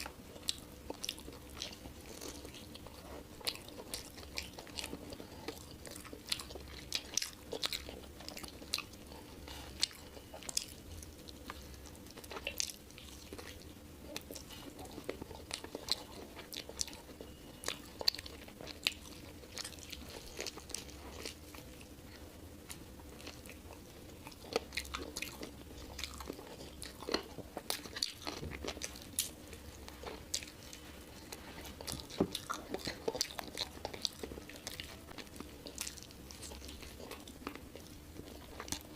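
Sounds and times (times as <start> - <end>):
person chewing with mouth clicks: 0.0 - 38.9.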